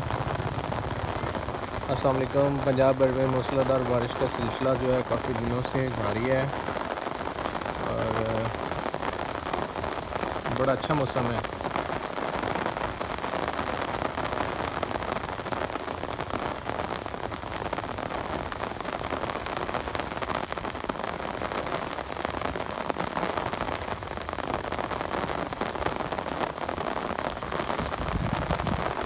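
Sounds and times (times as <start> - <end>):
raindrops ticking on surfaces: 0.0 - 29.0
steady rain hiss: 0.0 - 29.0.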